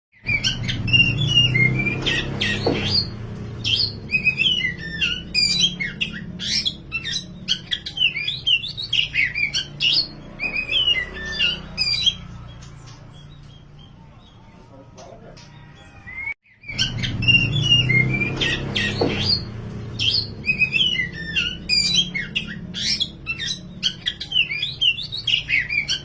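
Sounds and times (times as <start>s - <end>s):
songbird singing whistled phrases: 0.2s - 12.2s, 16.1s - 26.0s.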